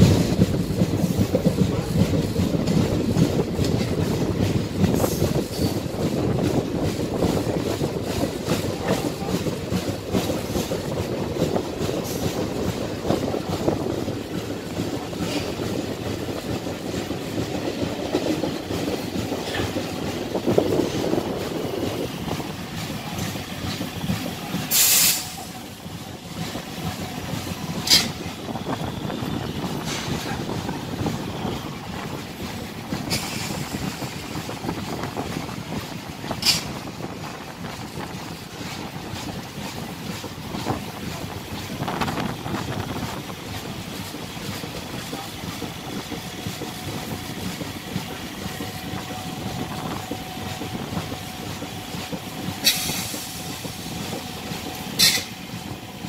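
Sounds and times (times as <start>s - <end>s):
train wheels clattering over rail joints: 0.0s - 56.0s.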